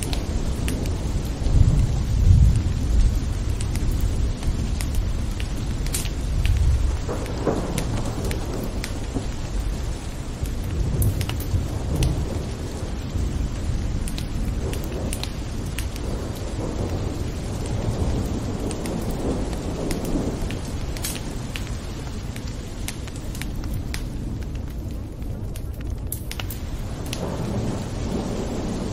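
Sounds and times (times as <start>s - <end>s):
low thunder rumble: 0.0s - 28.9s
steady rain: 0.0s - 28.9s.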